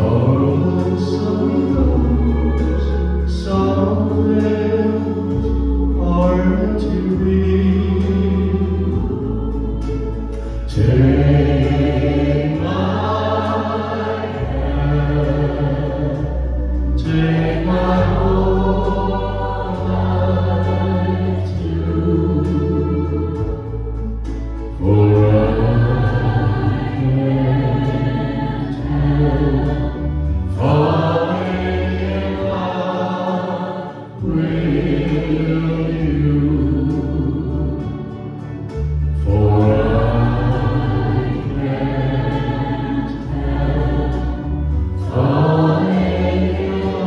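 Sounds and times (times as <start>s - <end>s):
mixed choir singing: 0.0s - 38.5s, 39.1s - 47.0s
amplified accompaniment with bass: 0.0s - 47.0s.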